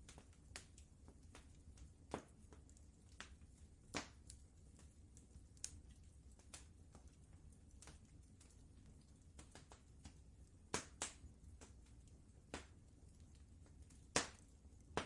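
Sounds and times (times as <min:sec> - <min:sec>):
faint low rumble: 0:00.0 - 0:15.0
wood fire crackling: 0:00.0 - 0:15.0.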